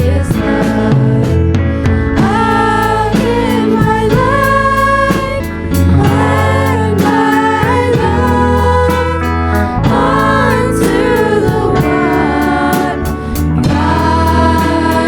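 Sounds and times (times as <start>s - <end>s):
gospel worship song: 0.0s - 15.0s.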